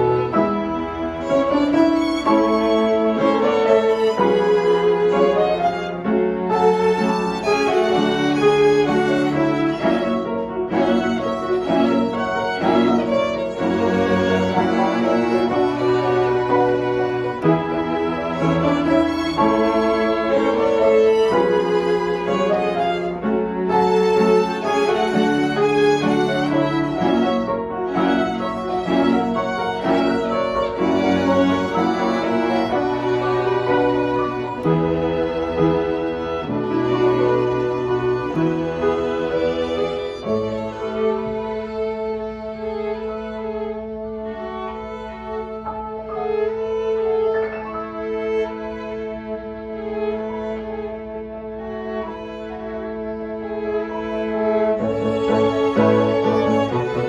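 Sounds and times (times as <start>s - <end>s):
string ensemble music: 0.0s - 57.0s.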